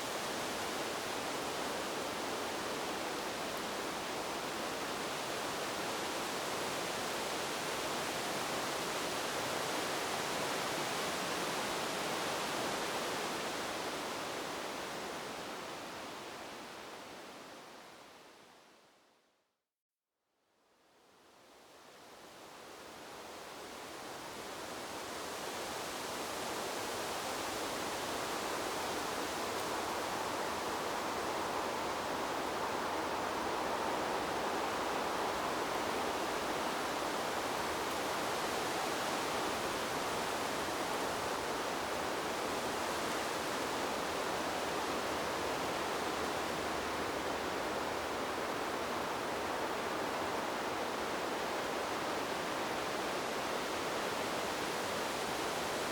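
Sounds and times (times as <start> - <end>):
wind rustling bamboo leaves: 0.0 - 19.0, 20.9 - 55.9.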